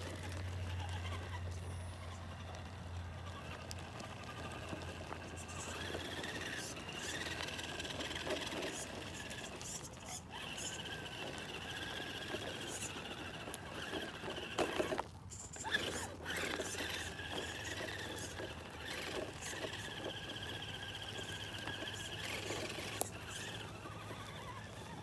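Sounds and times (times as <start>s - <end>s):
toy car motor whining: 0.0s - 25.0s.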